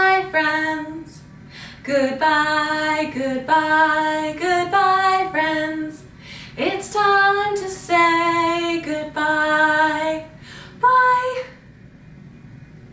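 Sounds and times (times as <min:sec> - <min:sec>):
woman singing unaccompanied: 0:00.0 - 0:11.6.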